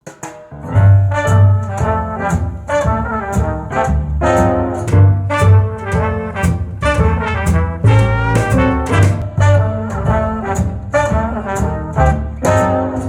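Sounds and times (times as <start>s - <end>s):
swing jazz band over loudspeaker: 0.5s - 13.0s.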